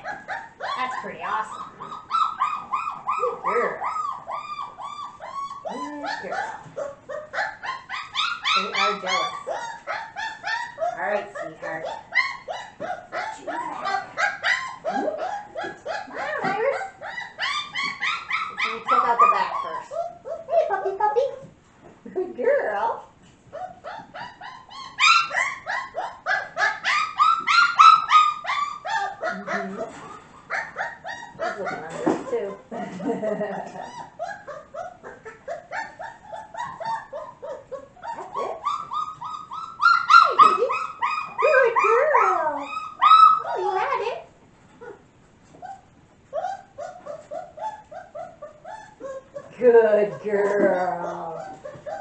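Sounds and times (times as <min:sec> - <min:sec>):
puppies whining and yelping: 0:00.0 - 0:21.5, 0:23.0 - 0:52.0.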